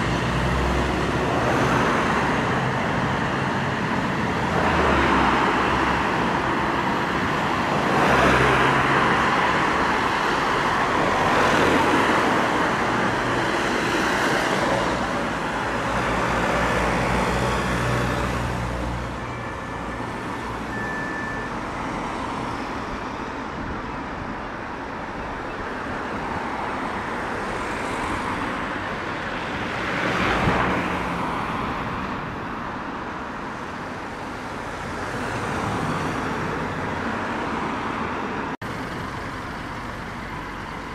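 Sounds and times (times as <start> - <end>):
vehicles passing close by: 0.0 - 40.9.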